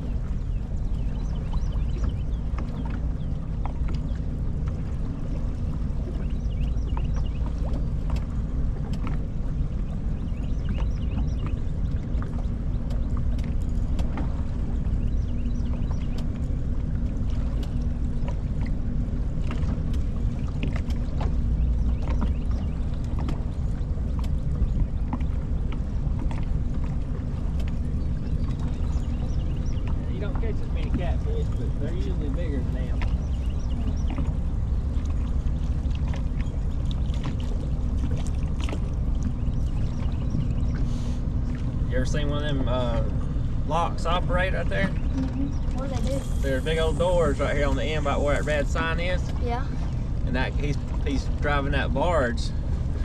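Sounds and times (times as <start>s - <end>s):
boat motor rumbling: 0.0s - 53.0s.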